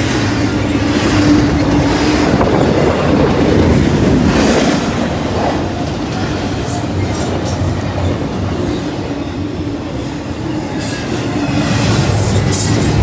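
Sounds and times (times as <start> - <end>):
freight train wheels rolling: 0.0 - 13.0.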